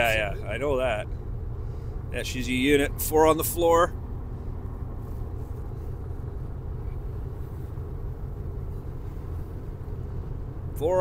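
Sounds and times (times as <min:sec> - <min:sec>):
engine and road noise in cab: 0:00.0 - 0:11.0.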